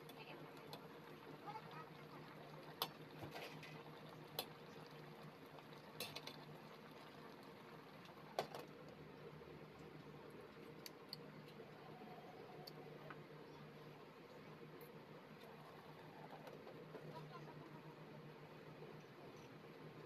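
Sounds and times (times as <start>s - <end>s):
quiet steady hum: 0.0s - 20.0s.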